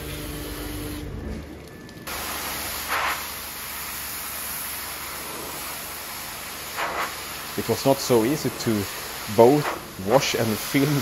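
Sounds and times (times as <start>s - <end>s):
pressure washer water jet hissing: 0.0s - 1.1s, 2.1s - 11.0s.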